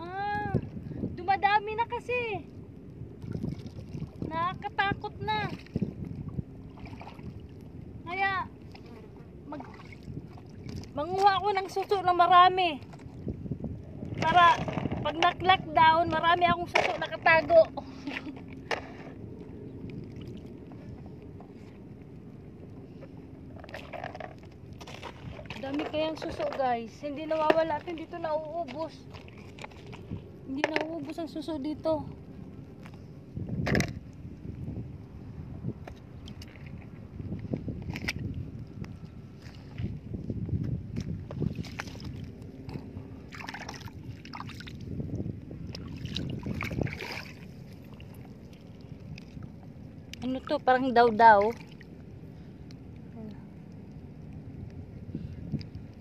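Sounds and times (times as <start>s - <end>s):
low steady rumble: 0.0s - 56.0s
water at the seashore: 0.0s - 56.0s
wind: 0.0s - 56.0s.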